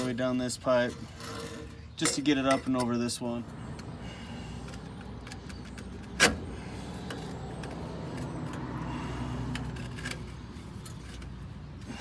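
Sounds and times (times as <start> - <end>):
metal pipe clanking and scraping: 0.0 - 3.1, 4.6 - 12.0.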